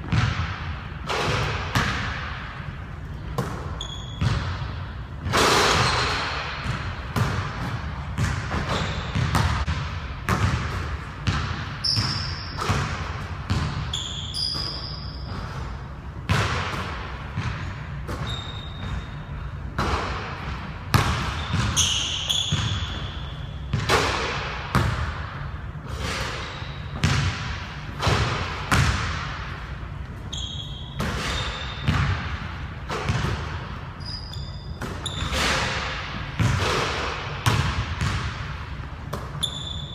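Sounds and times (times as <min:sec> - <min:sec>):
basketball bouncing on wooden floor: 0:00.0 - 0:02.2, 0:03.4 - 0:15.6, 0:16.3 - 0:19.1, 0:19.8 - 0:25.2, 0:26.9 - 0:29.4, 0:31.0 - 0:33.8, 0:34.8 - 0:39.9
sneaker squeaks: 0:03.2 - 0:09.7, 0:10.3 - 0:24.9, 0:25.9 - 0:28.9, 0:29.9 - 0:38.4, 0:39.0 - 0:39.9.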